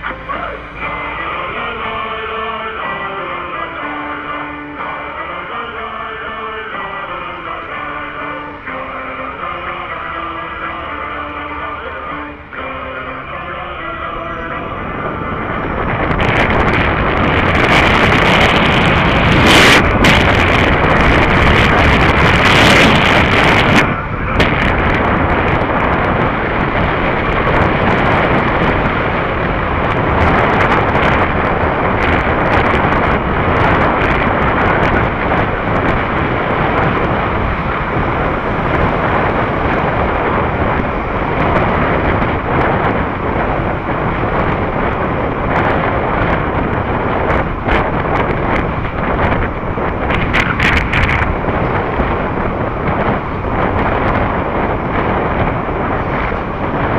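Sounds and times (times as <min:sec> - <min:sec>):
road and vehicle noise: 0:00.0 - 0:56.9
wind buffeting microphone: 0:00.0 - 0:56.9.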